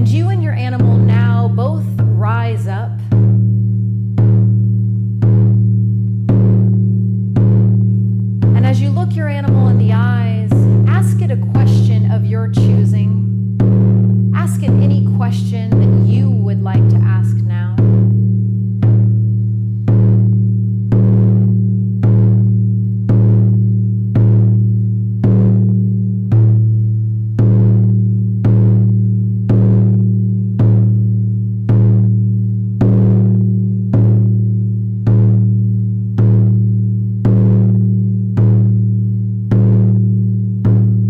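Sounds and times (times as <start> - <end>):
deep drum beat: 0.0 - 41.0.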